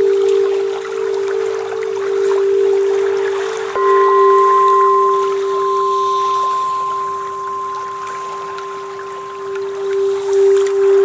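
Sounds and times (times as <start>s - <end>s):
faint dripping ticks: 0.0s - 11.0s
low synth drone: 0.0s - 11.0s
soft wash of water: 0.0s - 11.0s.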